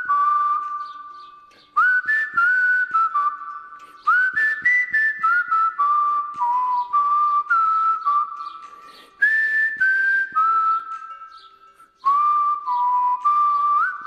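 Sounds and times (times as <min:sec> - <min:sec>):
light percussion: 0:00.0 - 0:14.0
whistled melody: 0:00.0 - 0:14.0.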